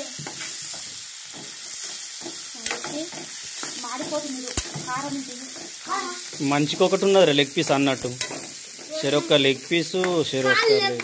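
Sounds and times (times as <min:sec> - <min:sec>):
spoon stirring and scraping pan: 0:00.0 - 0:10.4
chicken sizzling in oil: 0:00.0 - 0:11.0.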